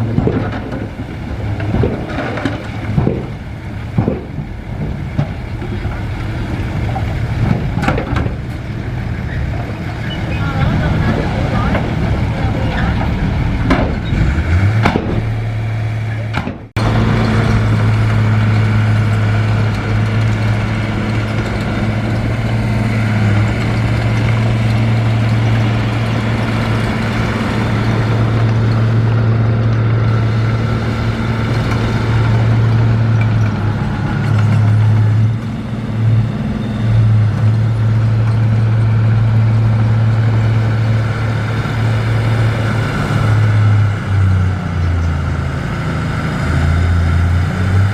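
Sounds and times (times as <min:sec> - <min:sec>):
diesel machinery droning: 0:00.0 - 0:47.9.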